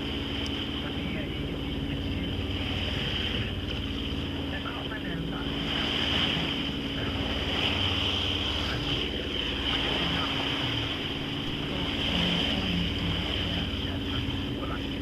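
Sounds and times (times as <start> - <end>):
boat engine running: 0.0 - 15.0
water rushing past hull: 0.0 - 15.0
wind on microphone: 0.0 - 15.0.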